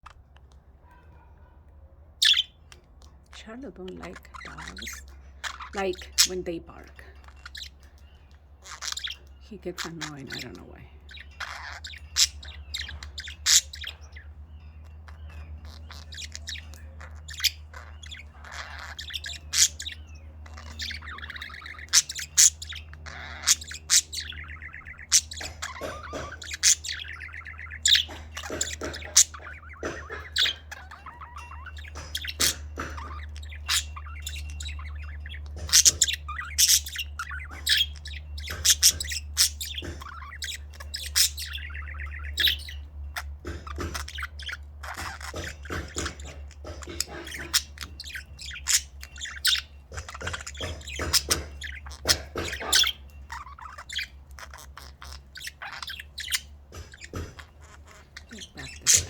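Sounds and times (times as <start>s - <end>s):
budgerigars chirping: 0.0s - 59.0s
budgerigars warbling: 0.0s - 59.0s
steady low hum: 0.0s - 59.0s.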